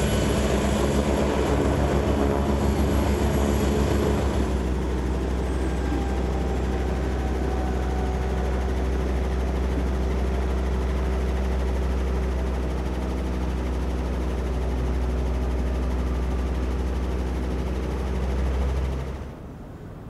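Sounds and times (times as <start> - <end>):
helicopter engines idling: 0.0 - 19.6.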